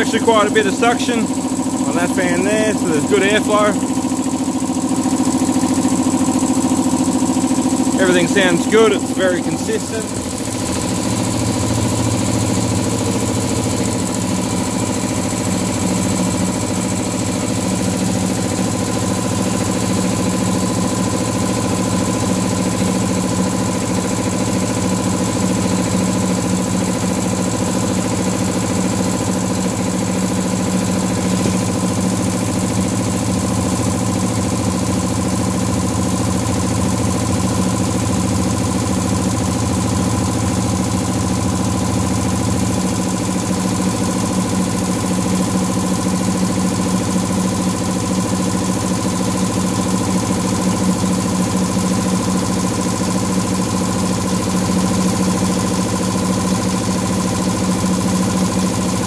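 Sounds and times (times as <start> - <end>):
air compressor running: 0.0 - 59.0.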